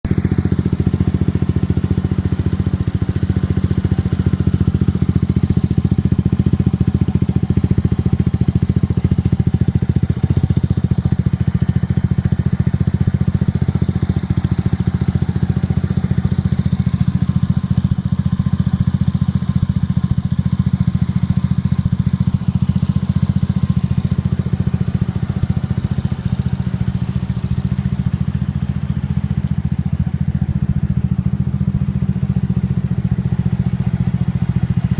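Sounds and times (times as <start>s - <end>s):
scooter exhaust running steadily: 0.0s - 34.9s.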